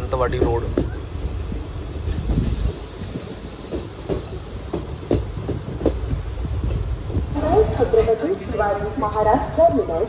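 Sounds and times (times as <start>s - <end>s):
wheels clacking over rail joints: 0.0s - 9.3s
train rumbling: 0.0s - 10.0s.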